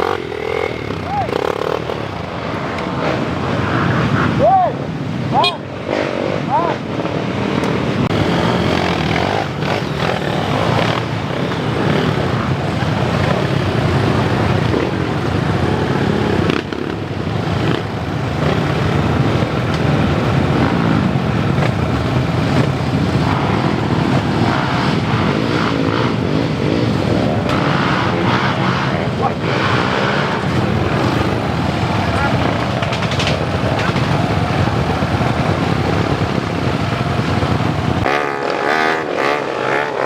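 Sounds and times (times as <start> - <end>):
motocross engines revving: 0.0 - 4.4, 5.0 - 40.0.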